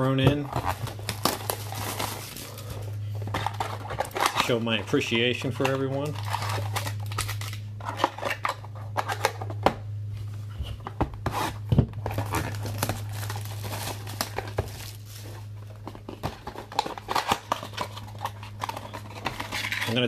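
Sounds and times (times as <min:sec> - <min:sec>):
low electrical hum: 0:00.0 - 0:20.0
plastic wrapping crinkling and tearing: 0:00.4 - 0:09.3, 0:12.0 - 0:20.0.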